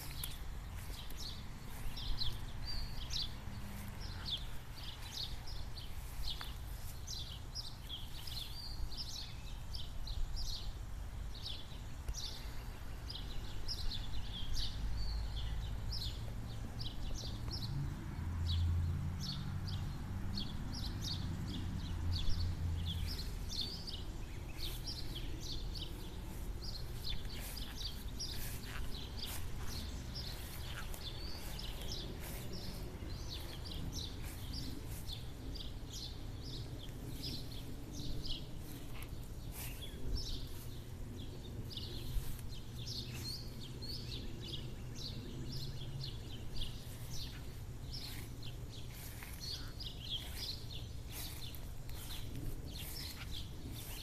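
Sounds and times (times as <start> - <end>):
songbirds chirping: 0.0 - 54.0
steady low rumble: 0.0 - 54.0.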